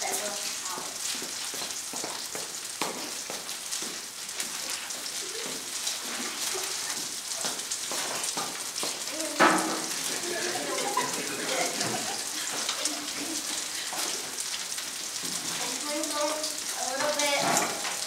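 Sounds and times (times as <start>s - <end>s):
steak sizzling in a pan: 0.0s - 18.0s.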